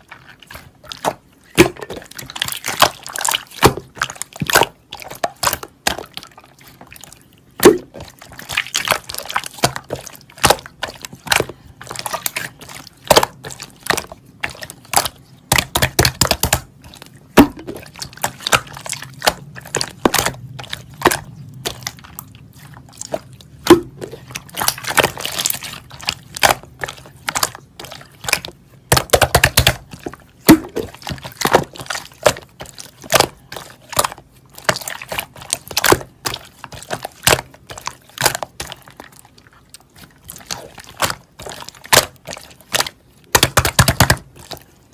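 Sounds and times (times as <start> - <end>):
slime squished by hand: 0.0 - 44.9.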